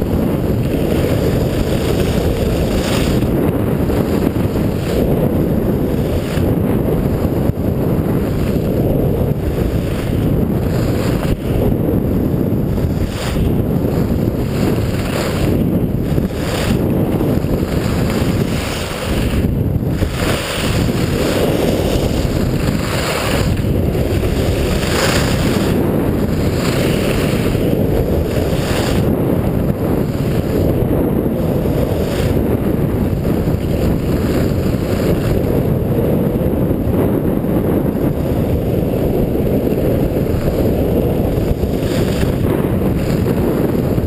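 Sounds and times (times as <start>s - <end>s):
skis carving on snow: 0.0s - 44.0s
wind buffeting microphone: 0.0s - 44.0s.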